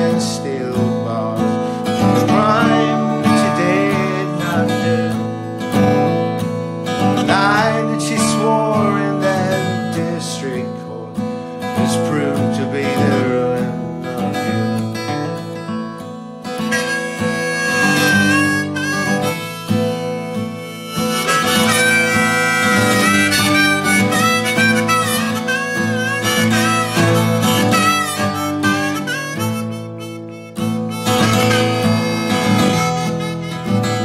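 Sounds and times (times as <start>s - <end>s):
acoustic guitar chords: 0.0s - 34.0s
harmonica melody: 0.0s - 34.0s.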